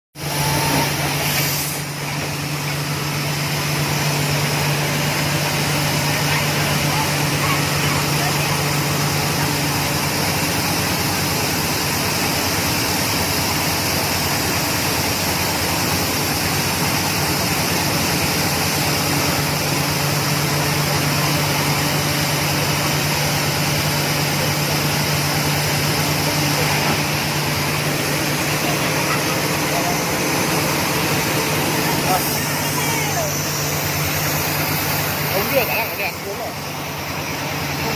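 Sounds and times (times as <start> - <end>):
drilling rig engine hum: 0.2 - 37.9
loud machine hiss: 0.2 - 37.9.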